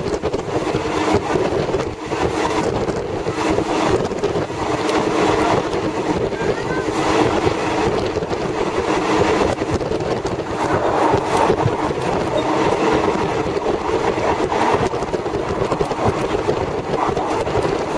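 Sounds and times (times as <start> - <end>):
rapid rattling and clatter: 0.0 - 17.9.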